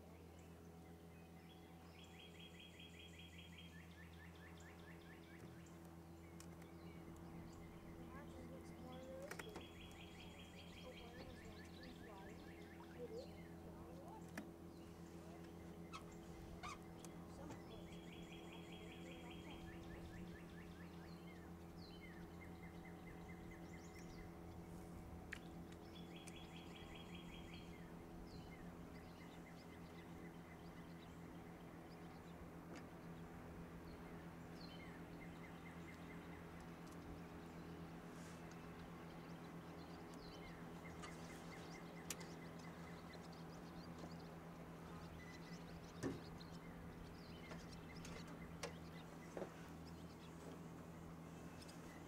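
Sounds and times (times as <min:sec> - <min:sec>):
steady low hum: 0:00.0 - 0:52.0
birds trilling: 0:00.2 - 0:52.0.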